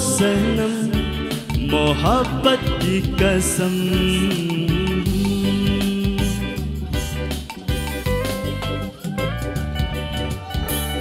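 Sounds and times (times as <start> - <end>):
bass notes: 0.0 - 11.0
guitar: 0.0 - 11.0.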